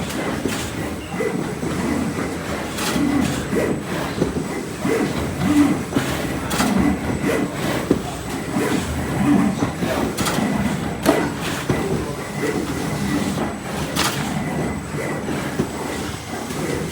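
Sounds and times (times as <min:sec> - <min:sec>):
plotter carriage motors whirring: 0:00.0 - 0:16.9.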